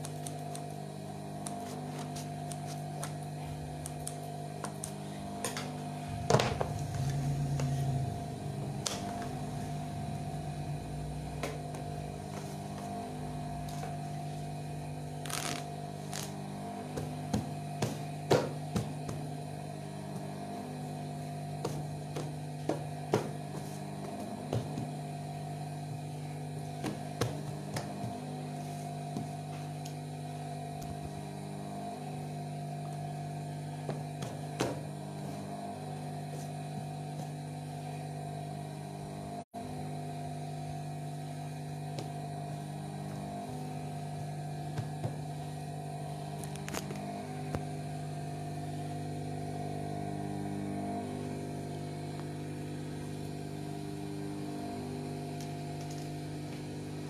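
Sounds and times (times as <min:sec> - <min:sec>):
sewing machine motor humming: 0:00.0 - 0:57.0.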